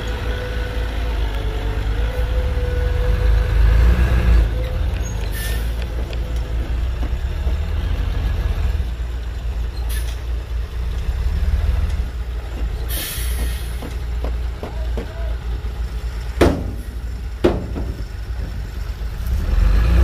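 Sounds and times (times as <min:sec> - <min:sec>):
dump truck diesel engine rumbling: 0:00.0 - 0:20.0.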